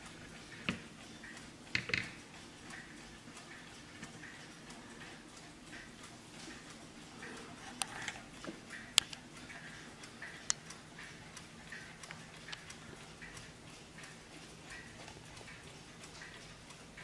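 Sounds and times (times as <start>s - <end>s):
mantel clock ticking: 0.0s - 17.0s.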